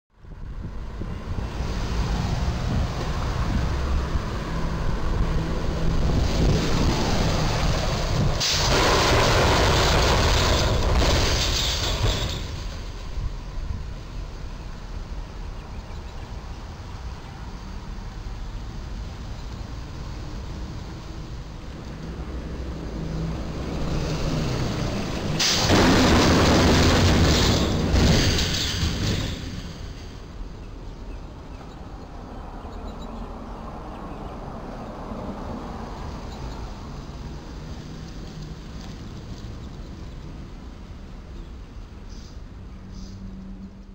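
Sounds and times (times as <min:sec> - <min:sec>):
road traffic noise: 0:00.1 - 0:43.9
truck engine rumble: 0:00.1 - 0:43.9.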